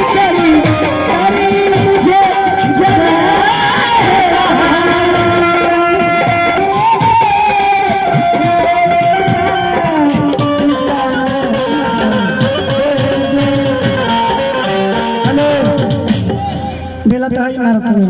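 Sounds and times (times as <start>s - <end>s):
held melody notes: 0.0s - 17.1s
tabla playing: 0.0s - 18.0s.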